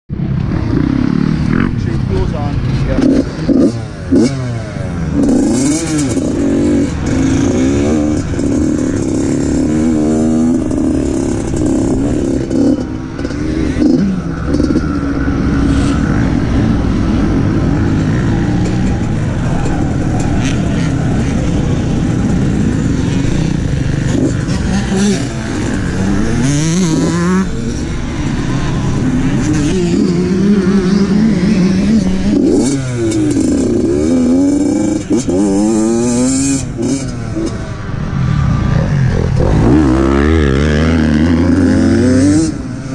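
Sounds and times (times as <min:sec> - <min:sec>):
dirt bike engine with throttle blips: 0:00.1 - 0:42.9.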